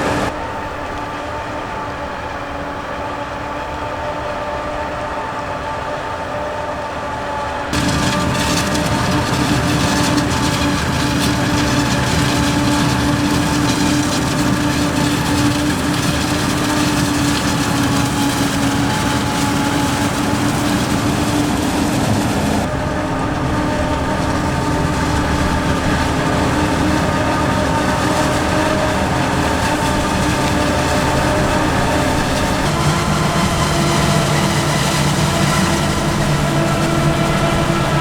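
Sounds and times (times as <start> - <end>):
diesel farm machinery running: 0.0 - 38.0.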